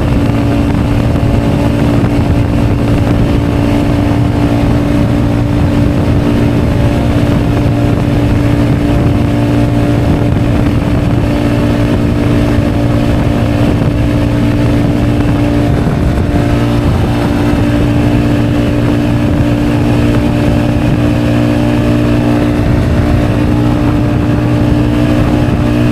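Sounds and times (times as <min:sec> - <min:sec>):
motorcycle engine at full speed: 0:00.0 - 0:25.9
wind buffeting microphone: 0:00.0 - 0:25.9.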